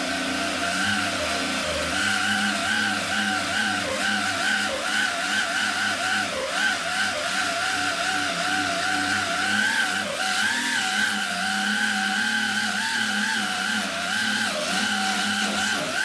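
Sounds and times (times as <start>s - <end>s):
pneumatic wire brush whining: 0.0s - 16.0s.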